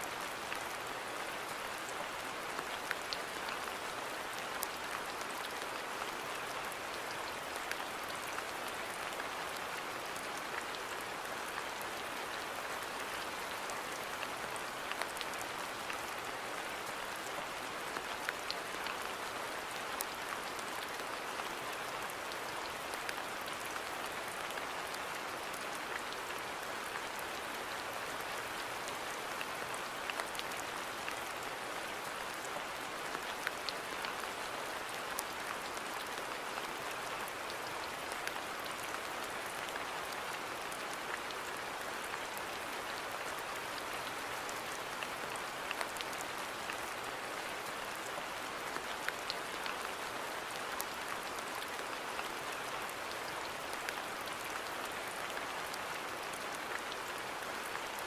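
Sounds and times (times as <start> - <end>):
steady rain hiss: 0.0 - 58.0
raindrops ticking on surfaces: 0.1 - 58.0.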